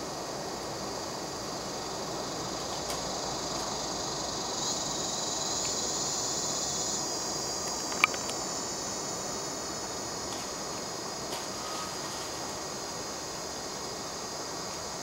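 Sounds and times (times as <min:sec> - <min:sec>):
insects chirping chorus: 0:00.0 - 0:15.0.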